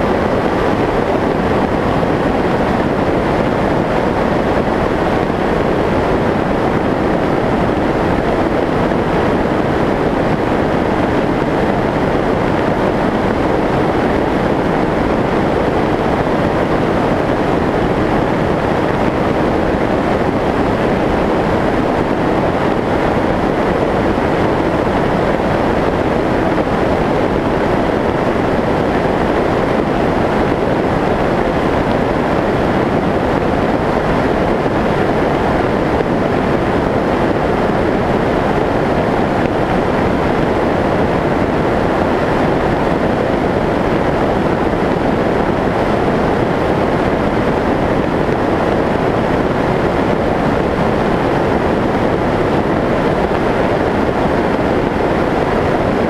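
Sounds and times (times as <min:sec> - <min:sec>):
wind rushing over camera: 0:00.0 - 0:56.0.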